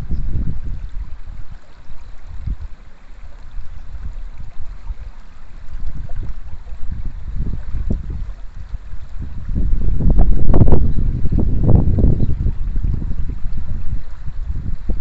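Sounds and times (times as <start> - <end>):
stream flowing over stones: 0.0 - 15.0
wind buffeting microphone: 0.0 - 15.0.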